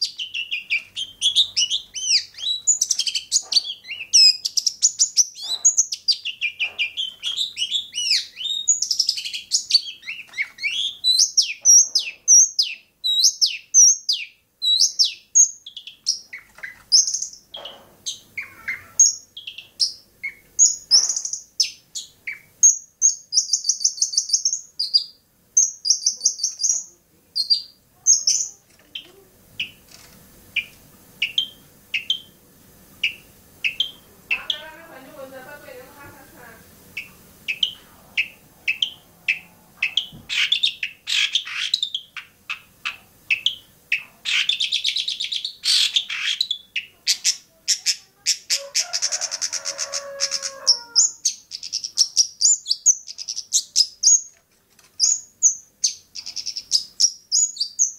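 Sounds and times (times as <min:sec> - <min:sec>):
bird singing chirps and trills: 0:00.0 - 0:29.8, 0:30.6 - 0:32.4, 0:33.0 - 0:35.7, 0:37.0 - 0:48.5, 0:49.3 - 0:54.4, 0:55.0 - 0:57.9.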